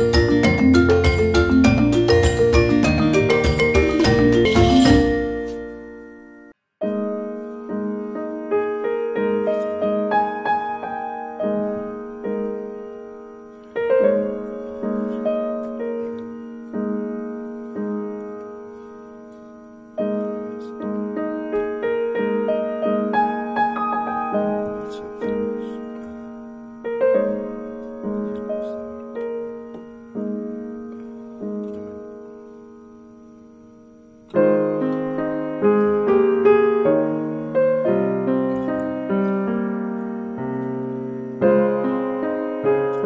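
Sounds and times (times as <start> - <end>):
gentle piano piece: 0.0 - 43.0.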